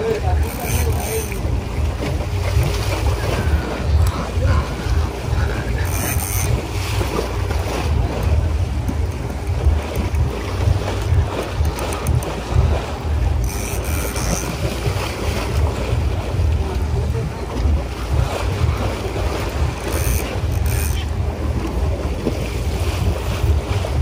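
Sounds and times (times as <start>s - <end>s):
steady low rumble: 0.0s - 24.0s
waves washing against hull: 0.0s - 24.0s
wind buffeting microphone: 0.0s - 24.0s.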